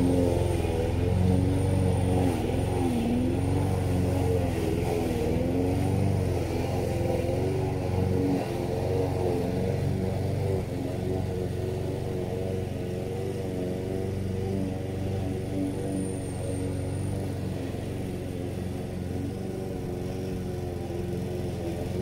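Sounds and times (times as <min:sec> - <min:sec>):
lawn mower engine cutting grass: 0:00.0 - 0:22.0.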